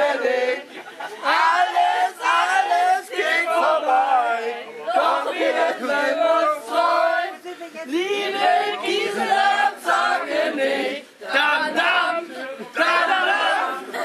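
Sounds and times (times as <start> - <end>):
group of people singing: 0.0 - 14.0.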